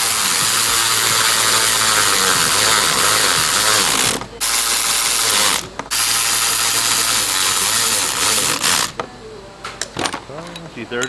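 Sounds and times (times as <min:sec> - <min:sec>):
cordless power tool driving fastener: 0:00.0 - 0:09.0.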